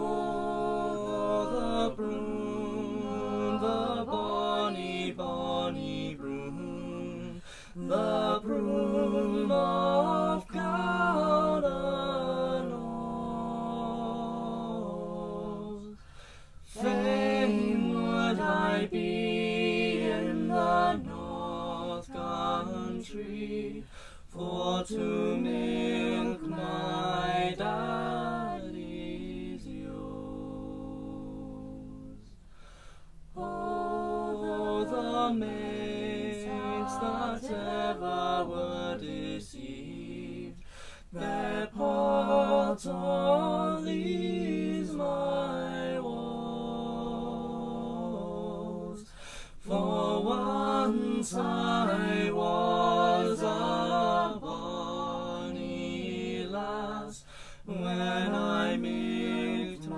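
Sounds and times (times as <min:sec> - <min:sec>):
unaccompanied voices singing ballad: 0:00.0 - 0:59.9.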